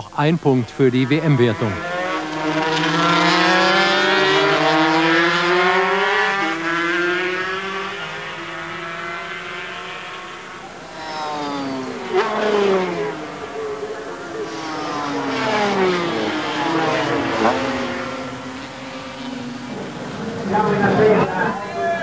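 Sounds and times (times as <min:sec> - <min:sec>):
racing motorcycles at high revs: 0:01.0 - 0:21.6.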